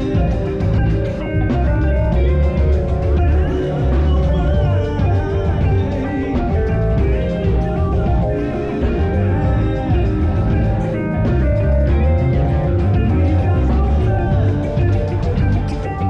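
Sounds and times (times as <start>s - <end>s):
band playing rock music: 0.0s - 16.0s
electric guitar: 0.0s - 16.0s
heavy bass: 0.0s - 16.0s.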